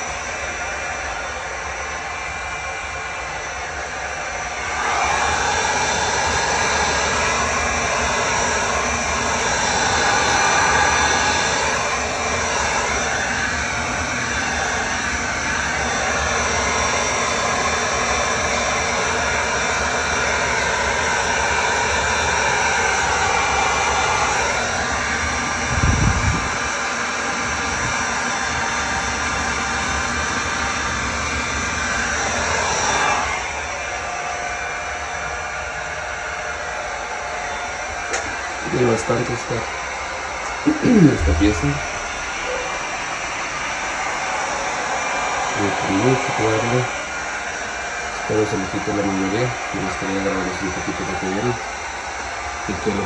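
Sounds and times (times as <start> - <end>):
heat gun blowing air: 0.0 - 53.0.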